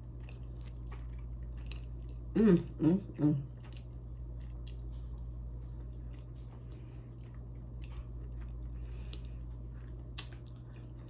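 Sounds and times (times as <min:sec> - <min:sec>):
close-up chewing: 0:00.0 - 0:11.0
steady low hum: 0:00.0 - 0:11.0.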